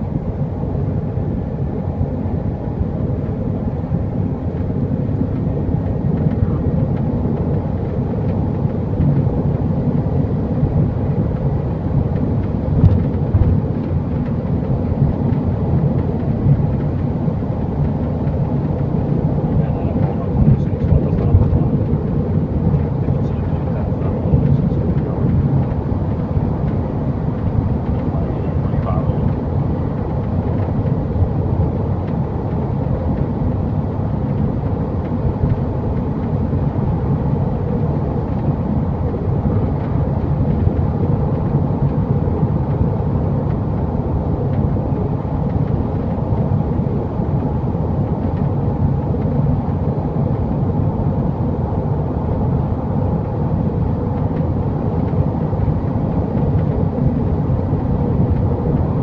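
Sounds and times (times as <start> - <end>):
car engine drone at speed: 0.0 - 59.0
road noise: 0.0 - 59.0.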